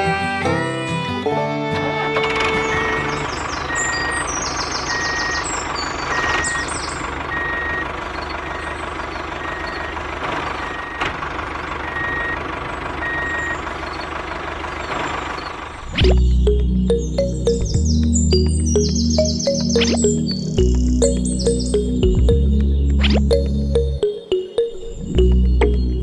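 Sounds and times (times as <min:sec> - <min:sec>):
engine rumble: 0:01.4 - 0:26.0
reversing alarm beeping: 0:02.6 - 0:10.0, 0:10.6 - 0:11.0, 0:11.8 - 0:14.1, 0:15.4 - 0:26.0.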